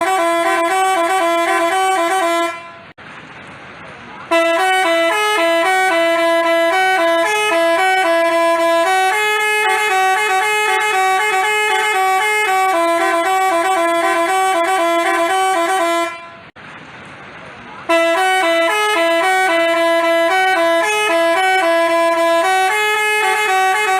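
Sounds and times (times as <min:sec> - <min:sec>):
multi-tone bus horn melody: 0:00.0 - 0:03.0, 0:04.2 - 0:16.6, 0:17.8 - 0:23.9.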